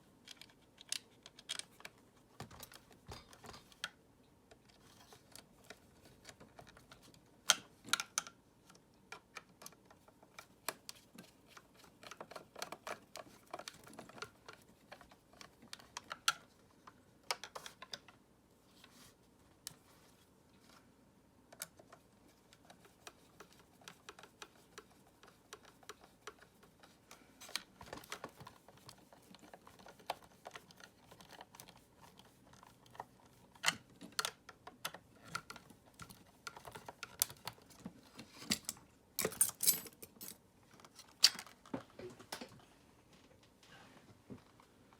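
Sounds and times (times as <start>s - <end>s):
plastic parts clicking and tapping: 0.2s - 18.2s, 21.5s - 42.6s.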